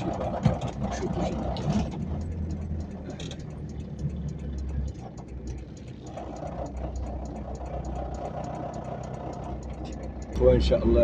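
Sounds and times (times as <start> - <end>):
car engine low hum: 0.0 - 11.0.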